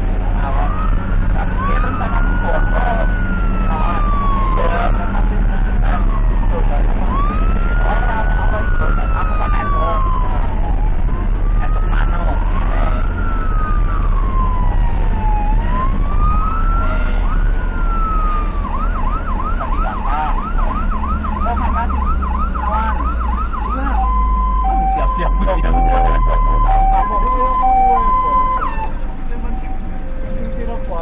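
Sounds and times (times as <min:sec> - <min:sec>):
ambulance siren wailing: 0:00.0 - 0:31.0
low rumble of moving vehicle: 0:00.0 - 0:31.0.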